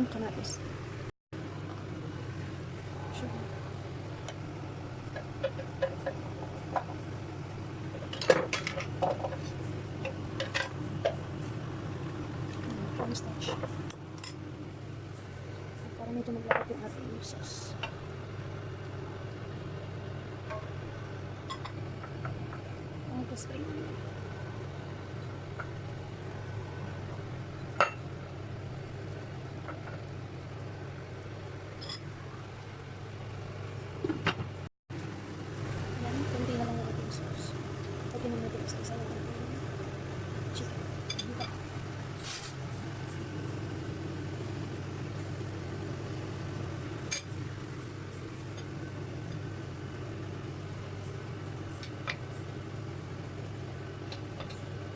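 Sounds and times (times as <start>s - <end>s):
low hum: 0.0s - 54.9s.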